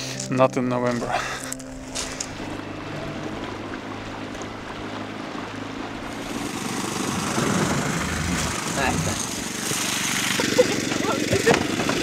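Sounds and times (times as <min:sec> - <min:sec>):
outboard motor running: 0:00.0 - 0:12.0
wind: 0:00.0 - 0:12.0
rushing water: 0:01.6 - 0:12.0.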